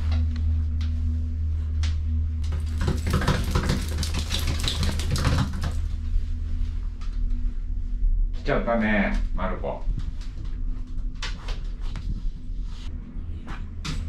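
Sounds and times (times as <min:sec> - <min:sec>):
gondola cabin hum: 0:00.0 - 0:02.8, 0:04.8 - 0:14.0.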